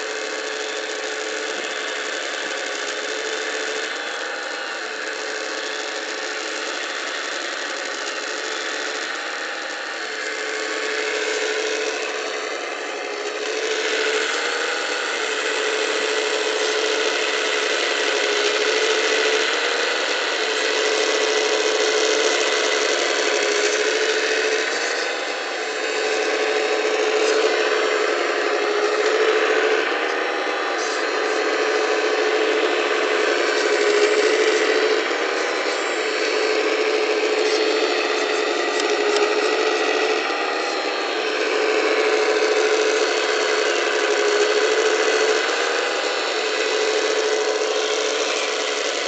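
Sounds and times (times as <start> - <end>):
hydraulic pump whining: 0.0 - 49.0.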